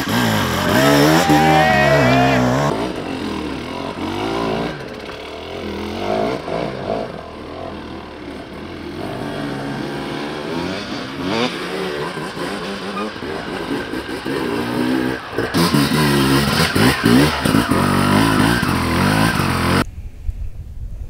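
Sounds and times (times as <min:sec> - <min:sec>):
dirt bike engines revving: 0:00.0 - 0:19.8.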